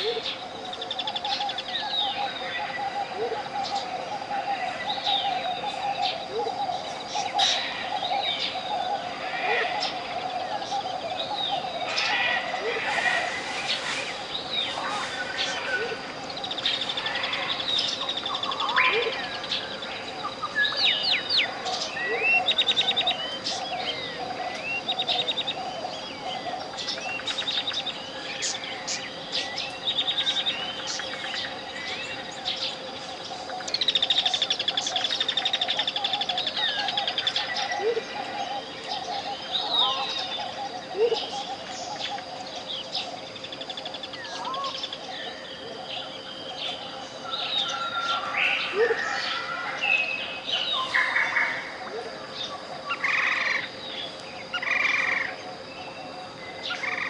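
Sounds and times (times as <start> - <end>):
jungle birds chirping: 0.0 - 57.0.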